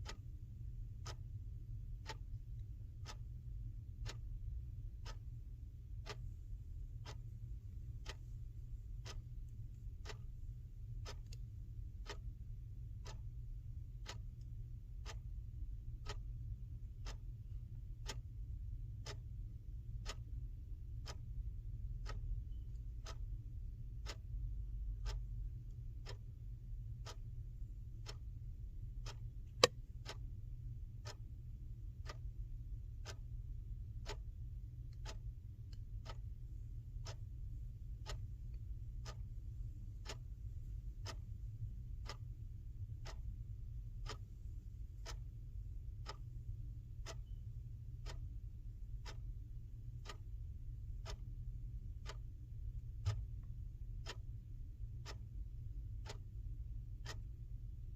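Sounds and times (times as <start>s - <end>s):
clock ticking: 0.0s - 57.9s
low steady hum: 0.0s - 57.9s.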